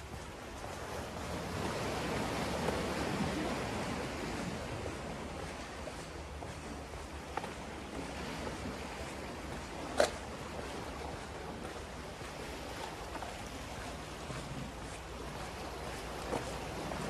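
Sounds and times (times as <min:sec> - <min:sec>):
small waves washing: 0:00.0 - 0:17.0.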